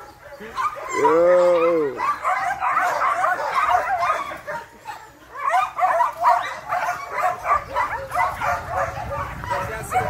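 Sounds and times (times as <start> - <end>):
many dogs barking and yelping: 0.0 - 10.0.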